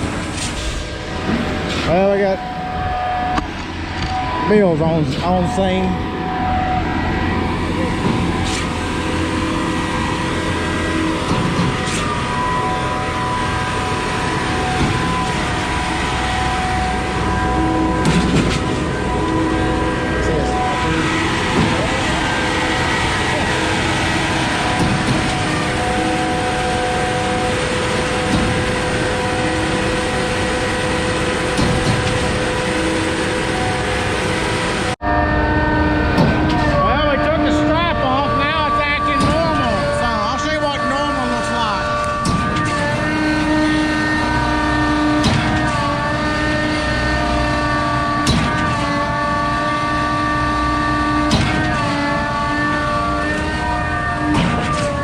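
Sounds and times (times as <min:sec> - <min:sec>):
diesel truck engine running: 0:00.0 - 0:55.0
steady whine: 0:00.0 - 0:55.0.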